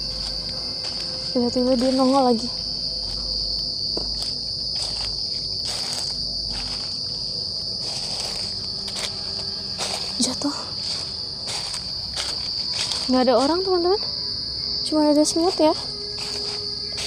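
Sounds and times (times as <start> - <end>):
footsteps in dry leaves: 0.0 - 17.0
night insects chirring: 0.0 - 17.0.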